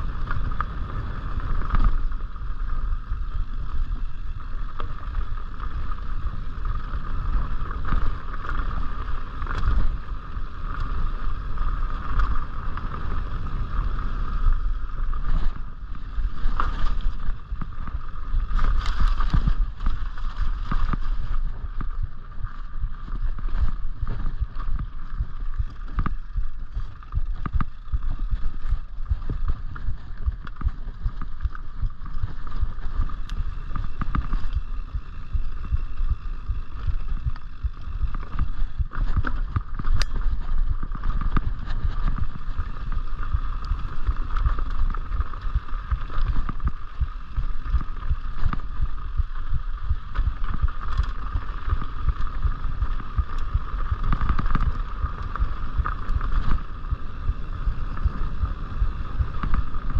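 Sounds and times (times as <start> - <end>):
bike clicking and rattling: 0.0 - 59.9
wind rushing over microphone: 0.0 - 59.9.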